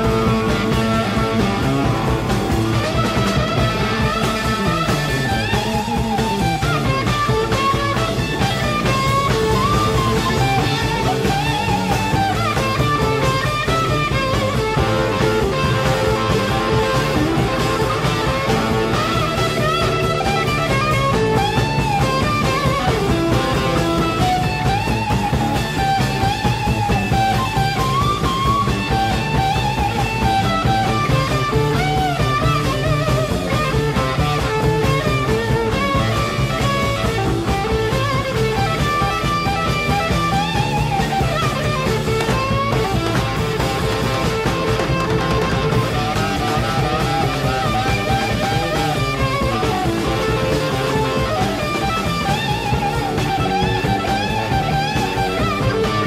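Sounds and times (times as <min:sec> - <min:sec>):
bass guitar: 0:00.0 - 0:56.0
drums: 0:00.0 - 0:56.0
electric guitar solo: 0:00.0 - 0:56.0.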